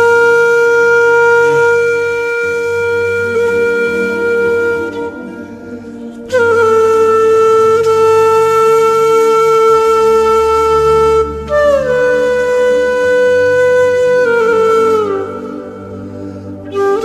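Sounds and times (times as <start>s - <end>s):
low drone: 0.0s - 17.0s
wind instrument long notes: 0.0s - 17.0s.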